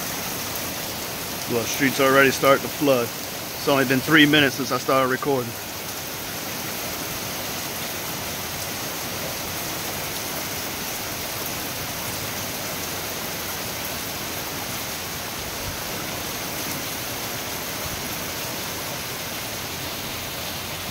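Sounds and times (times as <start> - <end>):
heavy rain pouring: 0.0 - 20.9.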